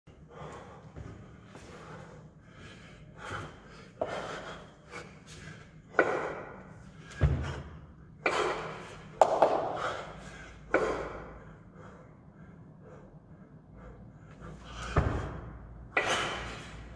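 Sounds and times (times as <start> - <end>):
sharp forceful breaths: 0.2 - 16.9.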